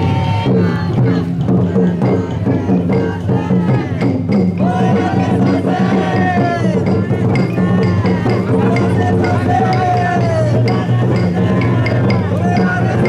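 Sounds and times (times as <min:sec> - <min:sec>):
people chanting: 0:00.0 - 0:13.0
taiko drum beating: 0:00.0 - 0:13.0.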